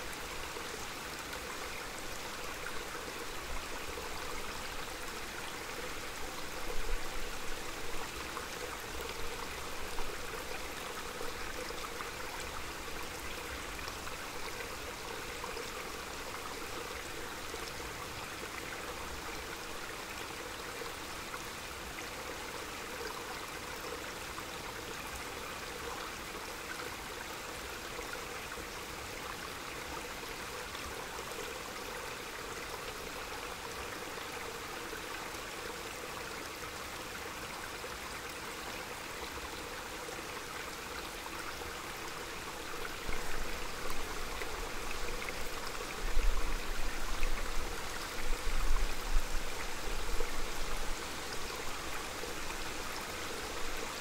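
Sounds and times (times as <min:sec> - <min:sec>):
mountain stream flowing: 0:00.0 - 0:54.0.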